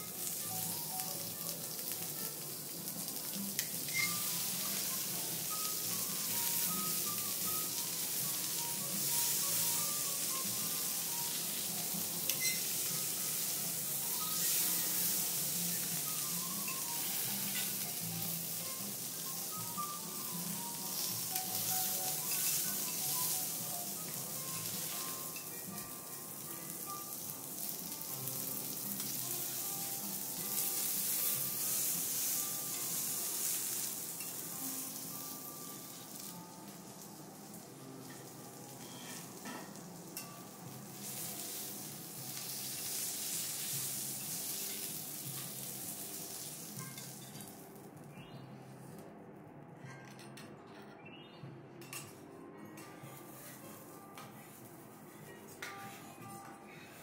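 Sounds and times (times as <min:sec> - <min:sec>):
beef sizzling on a griddle: 0:00.0 - 0:47.8.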